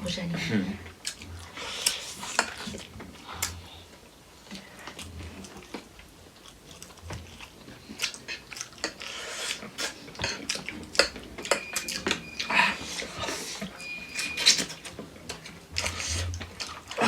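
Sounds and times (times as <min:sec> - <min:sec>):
chewing and crunching food: 0:00.8 - 0:17.0.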